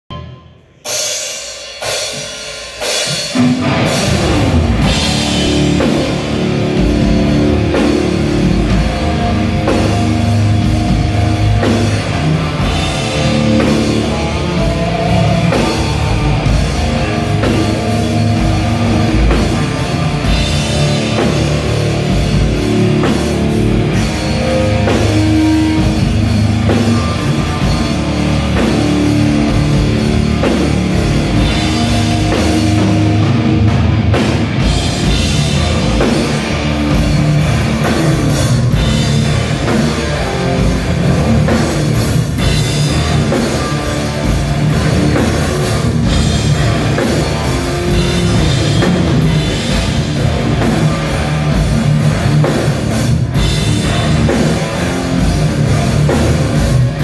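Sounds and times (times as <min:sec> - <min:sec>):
thrash metal band playing: 0:00.1 - 0:57.0.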